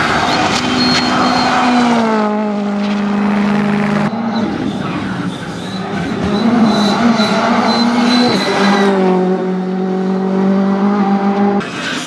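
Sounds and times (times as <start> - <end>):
rally car engine at racing speed: 0.0 - 12.0.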